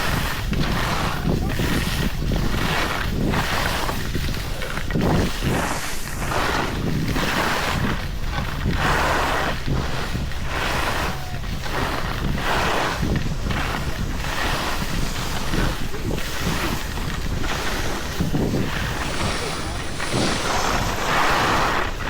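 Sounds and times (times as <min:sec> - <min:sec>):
skis scraping on icy snow: 0:00.0 - 0:22.0
wind rushing over microphone: 0:00.0 - 0:22.0.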